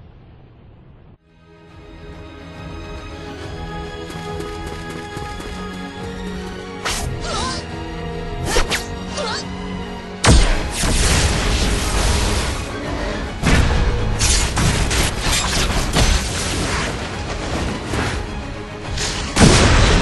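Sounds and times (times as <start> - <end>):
background music with held notes: 1.2 - 20.0.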